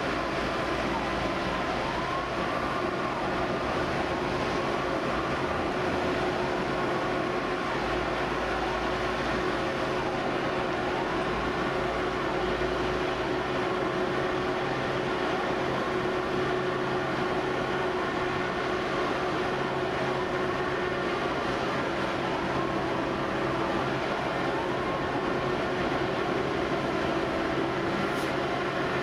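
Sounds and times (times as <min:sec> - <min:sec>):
fire engine pump motor droning: 0:00.0 - 0:29.0.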